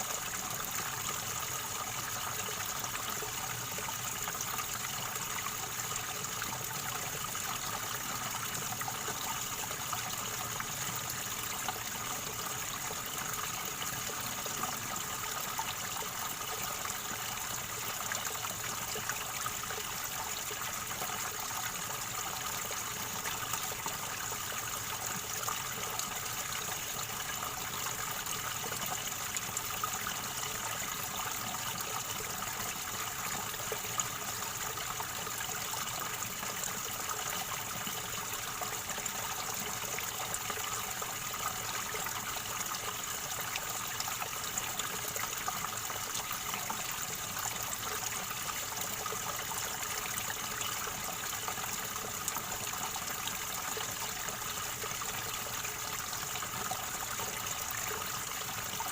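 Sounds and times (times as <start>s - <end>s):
river water gurgling: 0.0s - 58.9s.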